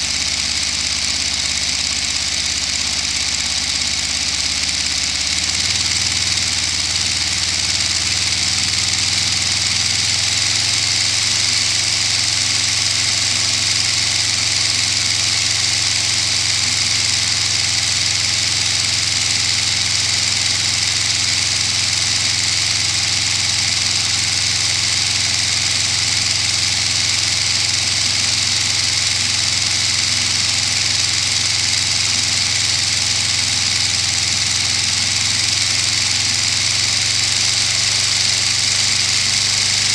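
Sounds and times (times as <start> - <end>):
toy engine running: 0.0 - 39.9.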